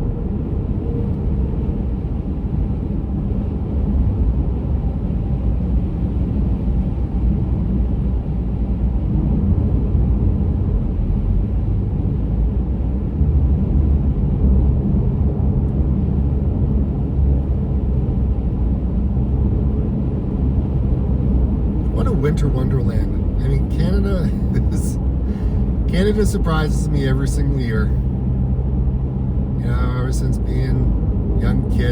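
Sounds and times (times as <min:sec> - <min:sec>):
car road and engine rumble: 0:00.0 - 0:31.9.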